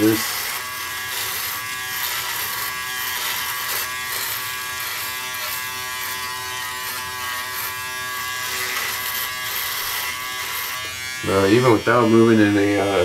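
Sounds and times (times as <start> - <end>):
electric shaver buzzing: 0.0 - 13.0.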